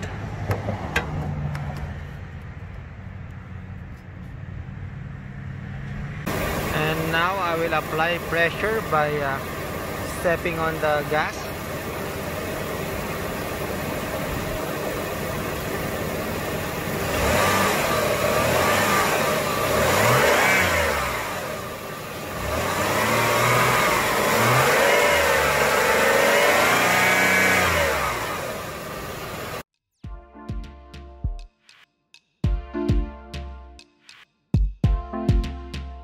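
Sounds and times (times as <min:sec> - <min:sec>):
car engine idling and revving: 0:00.0 - 0:29.7.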